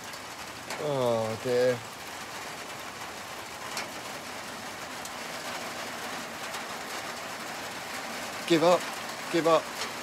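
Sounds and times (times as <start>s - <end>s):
heavy rain: 0.0s - 10.0s
sharp water drips: 0.0s - 10.0s.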